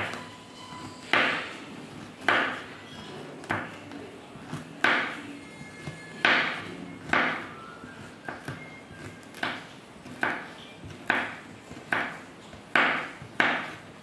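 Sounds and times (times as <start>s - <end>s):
knife chopping on wooden board: 0.0s - 14.0s.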